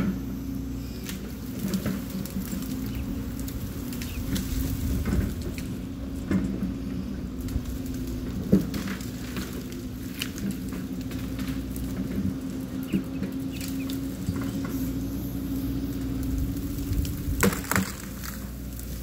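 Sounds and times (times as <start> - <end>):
branches crackling and snapping: 0.0 - 19.0
excavator diesel engine humming: 0.0 - 19.0.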